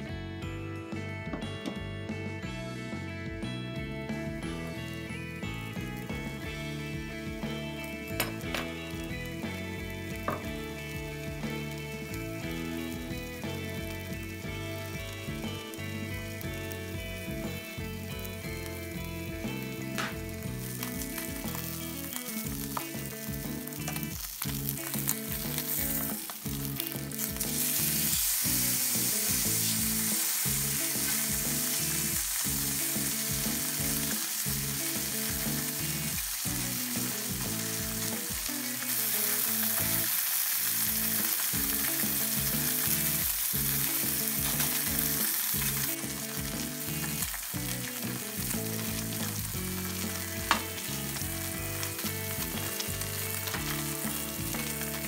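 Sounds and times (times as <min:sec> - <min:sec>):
fish skin sizzling in oil: 0:04.5 - 0:55.0.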